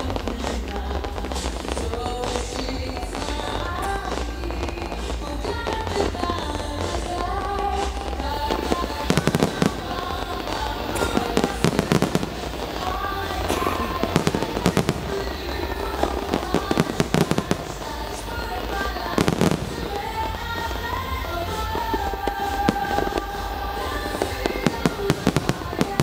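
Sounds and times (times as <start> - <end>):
fireworks bangs and crackles: 0.0 - 26.0
music playing: 0.0 - 26.0.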